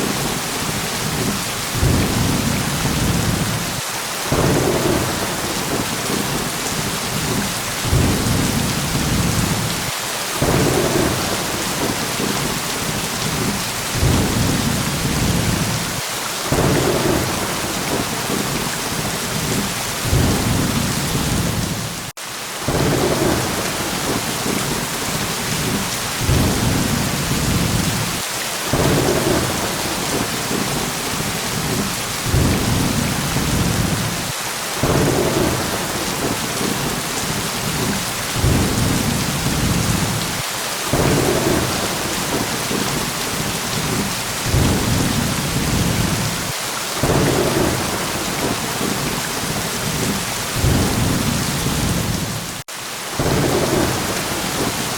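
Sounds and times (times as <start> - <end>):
thunder rumbling: 0.0 - 22.1, 22.7 - 52.6, 53.2 - 54.9
heavy rain hissing: 0.0 - 54.9.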